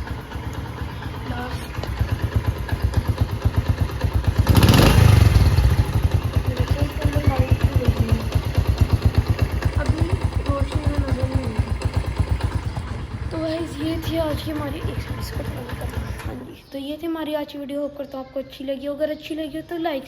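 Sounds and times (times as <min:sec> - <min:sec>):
motorcycle engine idling: 0:00.0 - 0:16.7.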